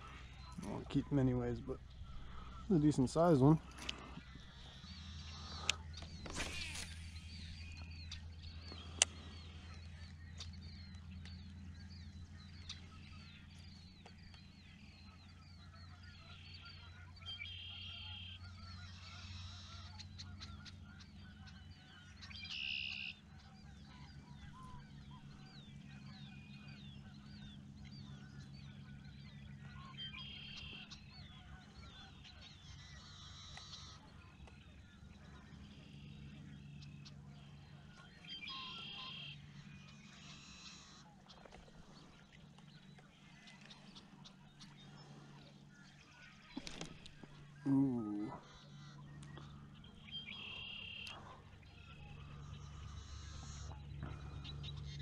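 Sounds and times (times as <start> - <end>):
louder wildlife calls: 0.0 - 13.8, 14.4 - 55.0.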